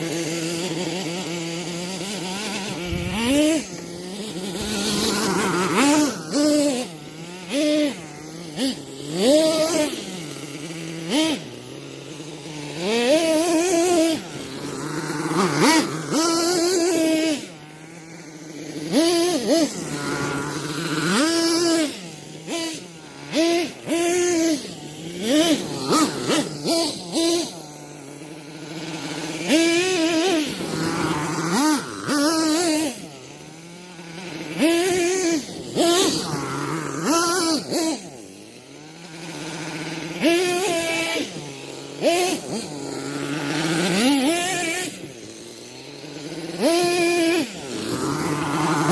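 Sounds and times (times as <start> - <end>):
small engine revving: 0.0 - 48.9.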